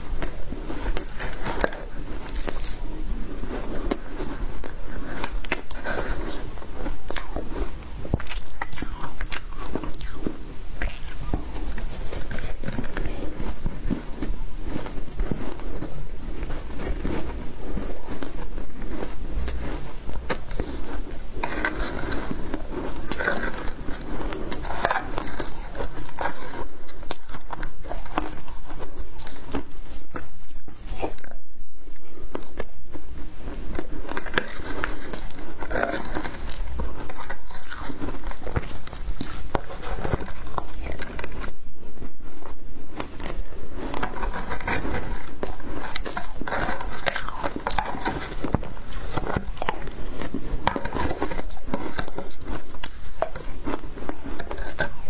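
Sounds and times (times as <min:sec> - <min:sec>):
crunching ice while chewing: 0:00.0 - 0:55.0.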